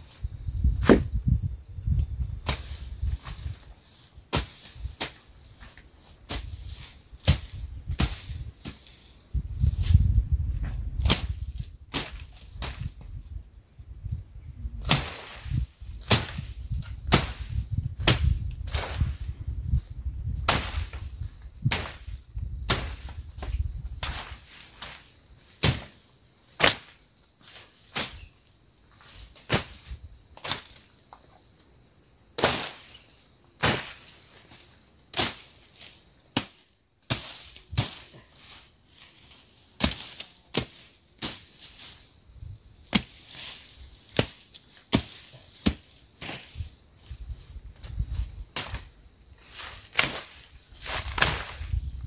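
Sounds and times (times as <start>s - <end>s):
insect buzzing: 0.0s - 52.0s.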